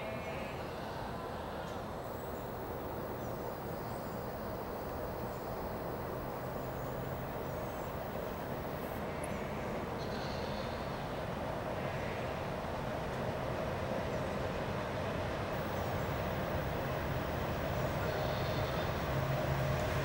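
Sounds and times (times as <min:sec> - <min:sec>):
distant diesel freight train rumble: 0:00.6 - 0:20.0.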